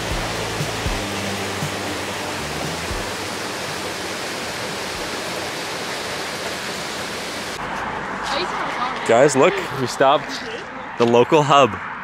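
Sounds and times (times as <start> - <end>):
stream rushing over rocks: 0.0 - 10.2.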